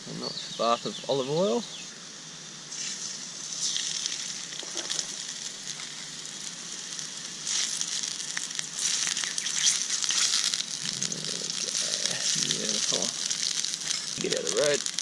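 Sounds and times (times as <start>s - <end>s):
fish sizzling in oil: 1.1s - 15.0s.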